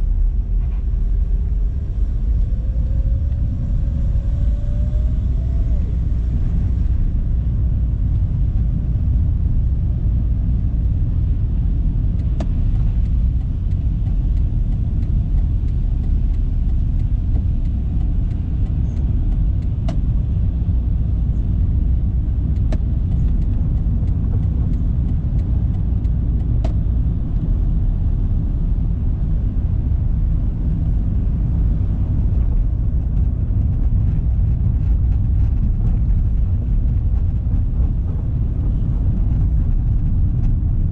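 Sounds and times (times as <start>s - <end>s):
tyres and engine rumble: 0.0s - 40.9s.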